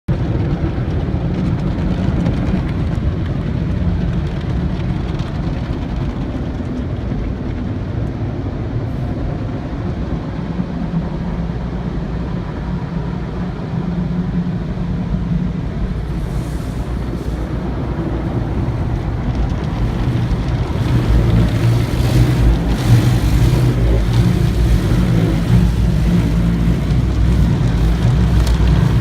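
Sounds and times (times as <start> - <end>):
car wash machinery rumbling: 0.1 - 29.0.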